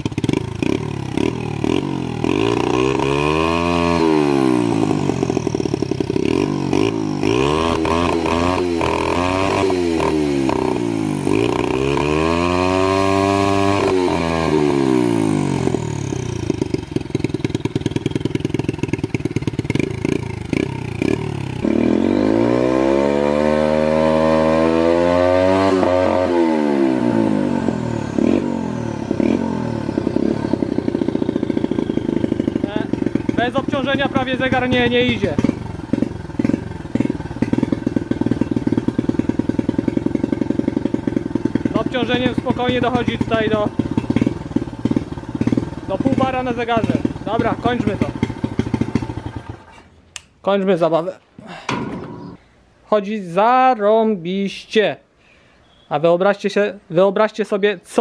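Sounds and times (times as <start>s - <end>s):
engine stuttering at ignition cut: 0.0s - 50.0s
motorbike engine revving: 0.0s - 50.0s, 51.5s - 52.5s.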